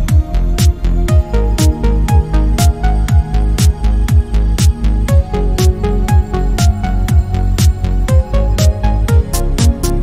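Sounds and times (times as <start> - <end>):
electronic dance music: 0.0 - 10.0
kick drum: 0.0 - 10.0
synth notes: 0.0 - 10.0.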